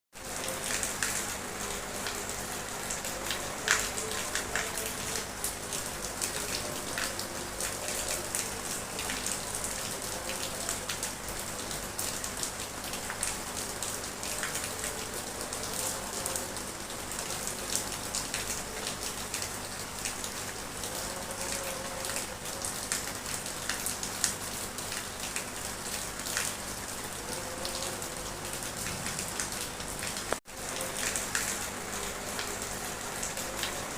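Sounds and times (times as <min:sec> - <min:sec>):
raindrops ticking on hard surfaces: 0:00.1 - 0:33.9
light rain hiss: 0:00.2 - 0:33.9.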